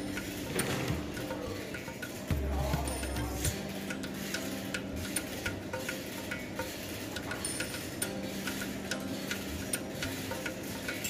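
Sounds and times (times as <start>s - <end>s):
chain hoist ratchet clicking: 0.0s - 11.0s
steady low hum: 0.0s - 11.0s.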